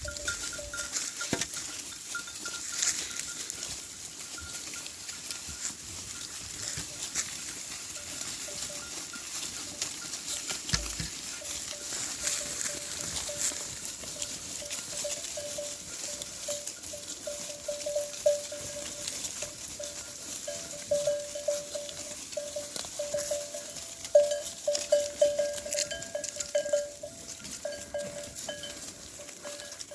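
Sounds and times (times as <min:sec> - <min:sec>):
sheep bells clinking: 0:00.0 - 0:29.9
shuffle of hooves: 0:00.0 - 0:29.9.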